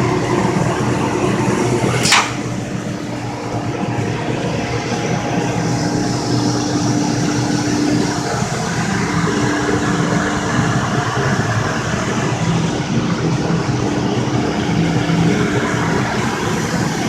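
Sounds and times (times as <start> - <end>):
cnc router running: 2.6 - 17.0.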